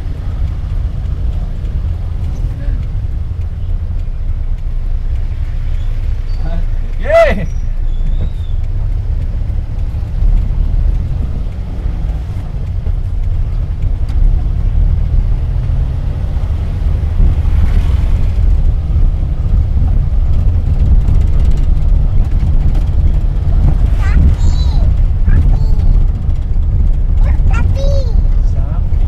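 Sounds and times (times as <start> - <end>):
van engine rumbling: 0.0 - 29.0.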